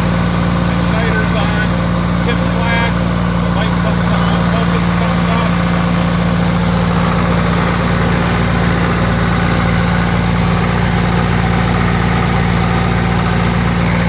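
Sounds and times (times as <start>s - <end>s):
diesel generator running: 0.0s - 14.0s.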